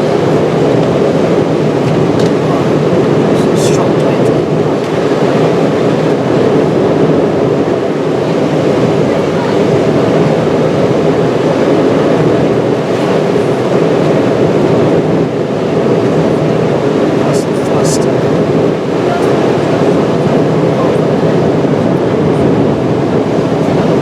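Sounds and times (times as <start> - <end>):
airplane cabin noise: 0.0 - 24.0.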